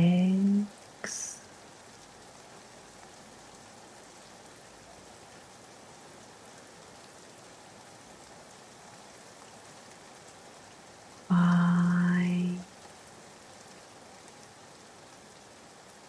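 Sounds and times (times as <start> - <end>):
rain drops ticking: 0.0 - 16.0
rain hiss: 0.0 - 16.0.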